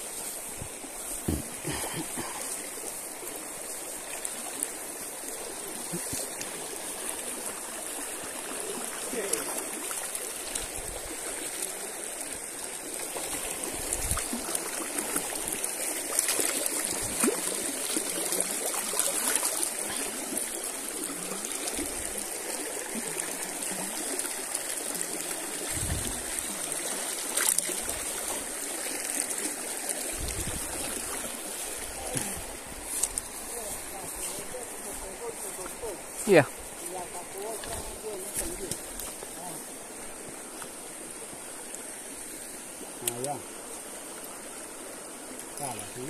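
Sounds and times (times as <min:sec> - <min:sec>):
river water over rocks: 0:00.0 - 0:46.0.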